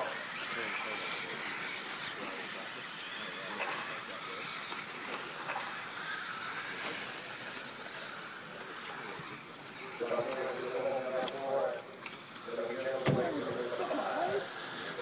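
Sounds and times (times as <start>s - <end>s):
rc car motors whining: 0.0s - 15.0s
tyres on dirt track: 0.0s - 15.0s.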